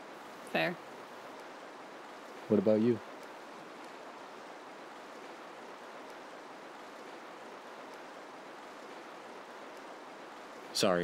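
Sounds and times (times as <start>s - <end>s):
river water over rapids: 0.0s - 11.0s.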